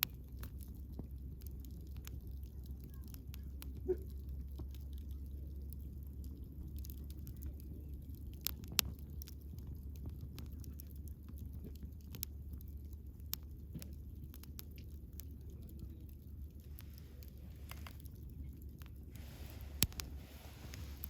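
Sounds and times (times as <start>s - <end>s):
bonfire crackling: 0.0s - 21.0s
low steady rumble: 0.0s - 21.0s.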